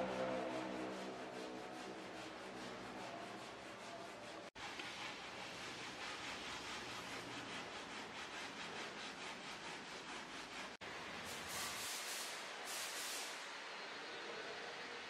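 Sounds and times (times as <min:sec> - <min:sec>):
hand sanding car body: 0:00.0 - 0:13.3.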